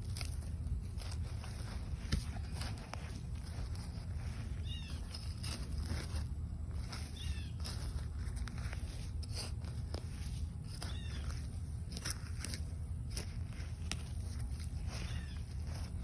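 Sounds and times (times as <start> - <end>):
handling clicks and rustles: 0.0 - 16.0
steady low rumble: 0.0 - 16.0.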